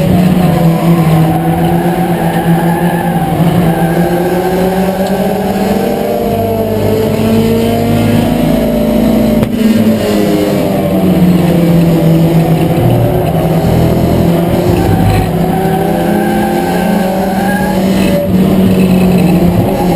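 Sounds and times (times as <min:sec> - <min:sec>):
race car engine running hard: 0:00.0 - 0:19.9.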